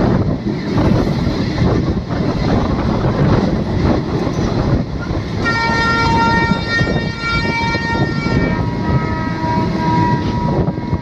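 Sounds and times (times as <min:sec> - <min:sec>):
train wheels and coaches rumbling: 0:00.0 - 0:11.0.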